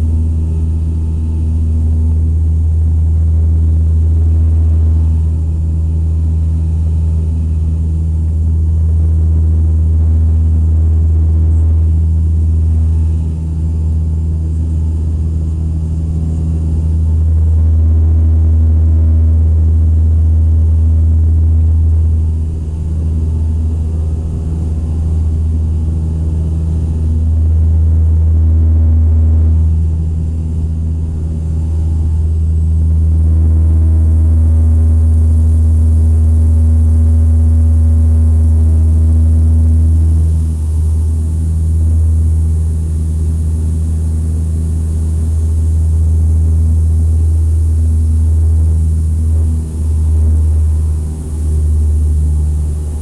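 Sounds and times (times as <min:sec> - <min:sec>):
aircraft engines droning: 0:00.0 - 0:17.9, 0:20.4 - 0:36.9, 0:38.5 - 0:53.0.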